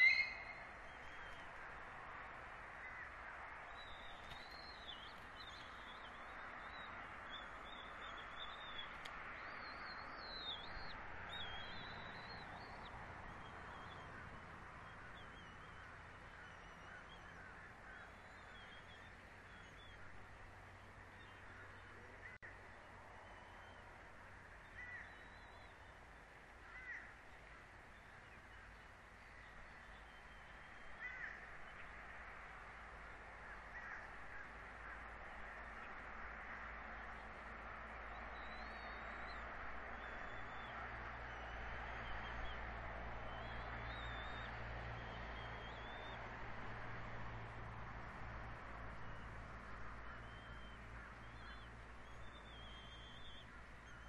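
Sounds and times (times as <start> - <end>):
birds calling: 0.0 - 1.7, 2.7 - 22.5, 24.4 - 36.0, 38.0 - 46.7, 48.9 - 54.0
thin warbling bird song: 0.0 - 1.8, 2.8 - 46.4, 48.9 - 54.0.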